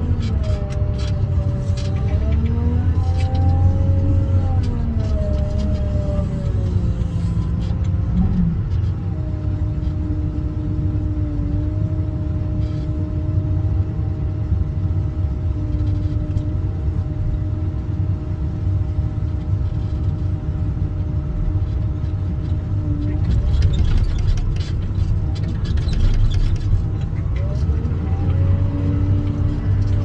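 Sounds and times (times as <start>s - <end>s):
diesel engine low rumble: 0.0s - 30.0s.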